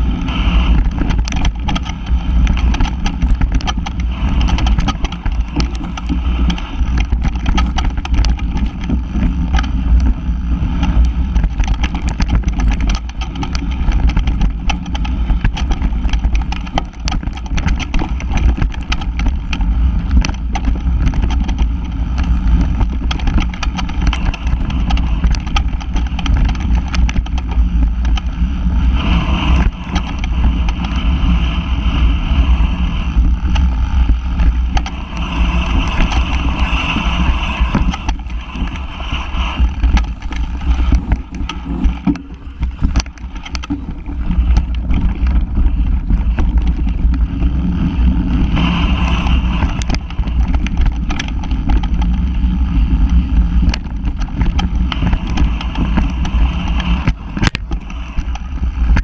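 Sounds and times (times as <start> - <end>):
bike clicks and rattles: 0.0 - 59.0
wind rumble on microphone: 0.0 - 59.0.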